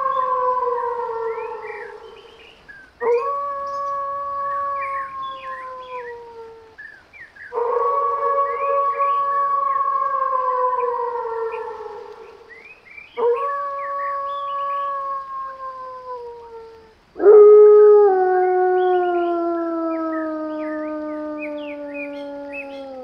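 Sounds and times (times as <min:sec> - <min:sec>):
wolves howling: 0:00.0 - 0:02.3, 0:03.0 - 0:06.8, 0:07.5 - 0:12.5, 0:13.2 - 0:23.0.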